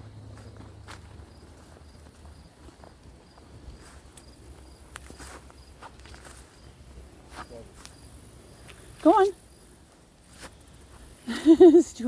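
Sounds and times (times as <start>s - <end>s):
footsteps rustling through undergrowth: 0.0s - 11.3s
crickets chirping: 0.0s - 12.0s.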